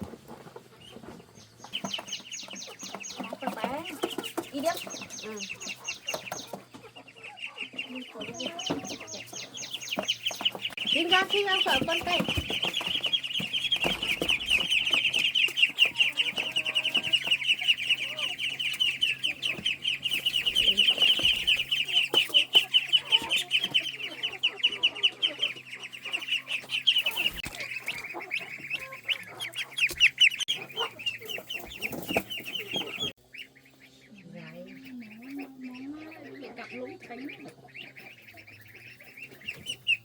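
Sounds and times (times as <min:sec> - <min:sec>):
chicks peeping: 0:00.0 - 0:40.0
faint low hum: 0:00.0 - 0:40.0.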